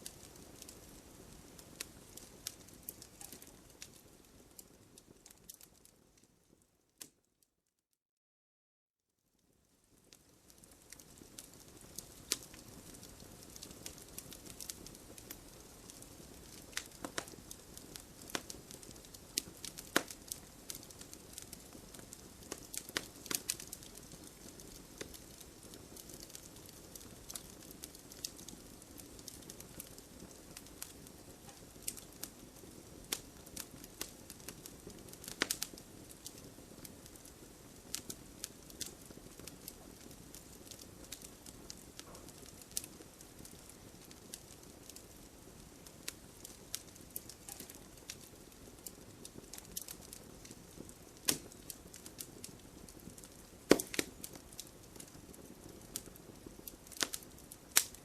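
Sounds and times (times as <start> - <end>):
campfire hiss and rumble: 0.0 - 7.2, 9.4 - 58.0
fire crackles and pops: 0.0 - 7.3, 9.3 - 58.0.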